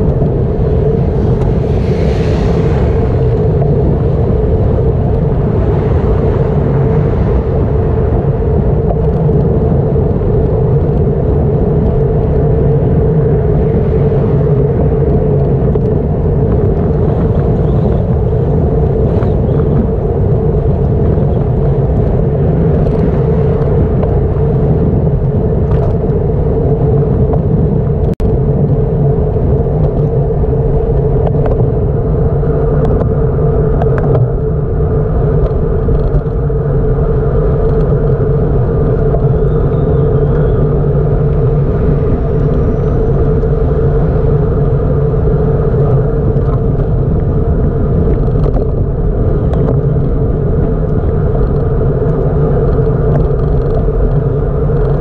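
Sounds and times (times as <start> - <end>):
constant low hum: 0.0 - 55.0
road rumble: 0.0 - 55.0
wind on microphone: 0.0 - 55.0.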